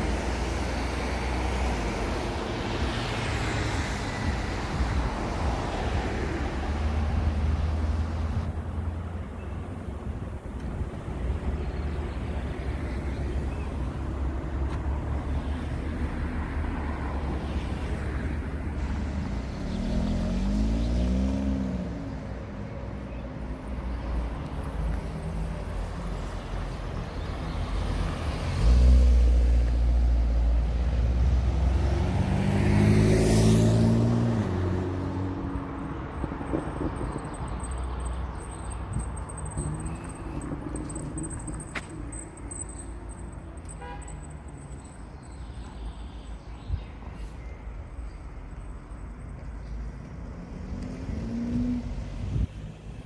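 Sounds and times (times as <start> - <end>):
traffic rumble: 0.0 - 53.0
vehicles passing close: 0.0 - 53.0.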